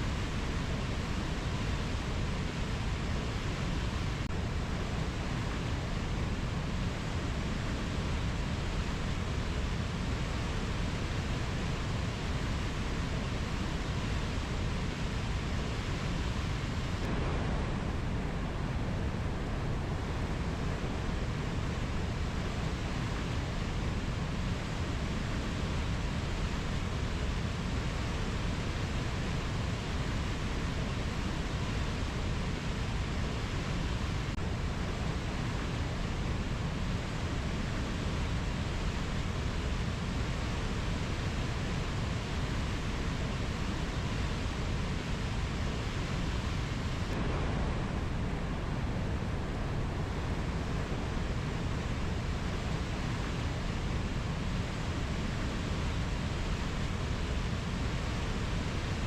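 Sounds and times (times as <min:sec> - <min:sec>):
rainforest ambience rushing noise: 0:00.0 - 0:59.0.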